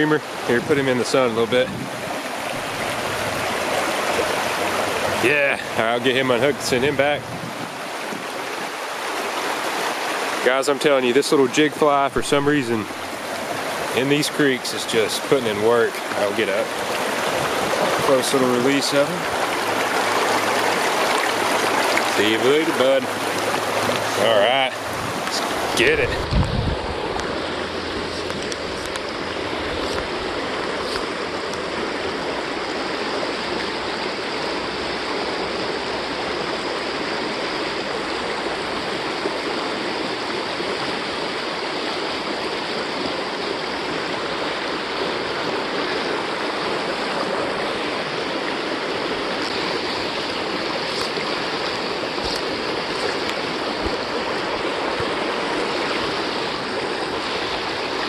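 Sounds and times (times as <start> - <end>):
creek water rushing over rocks: 0.0 - 58.0.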